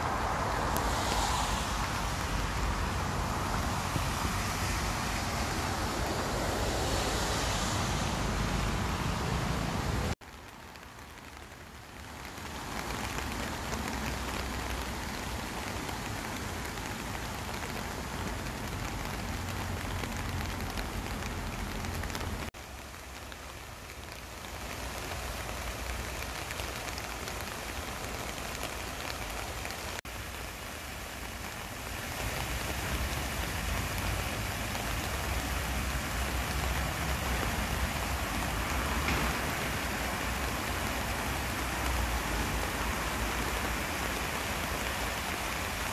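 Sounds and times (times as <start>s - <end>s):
rain on leaves: 0.0s - 45.9s
stream running over rocks: 0.0s - 45.9s.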